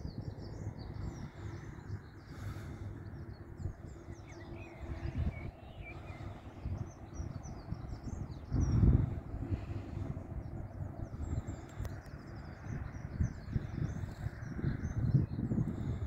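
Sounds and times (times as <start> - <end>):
small birds chirping: 0.0 - 16.0
wind on microphone: 0.0 - 16.0.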